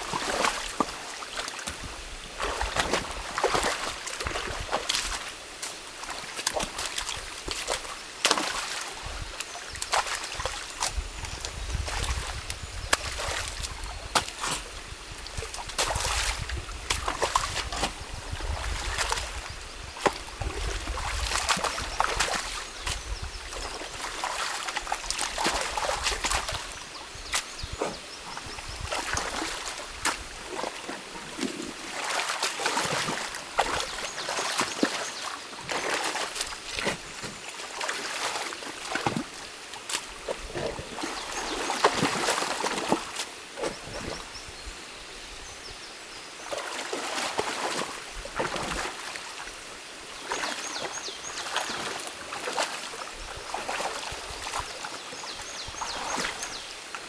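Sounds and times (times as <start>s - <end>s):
stream water trickling and splashing: 0.0s - 57.0s.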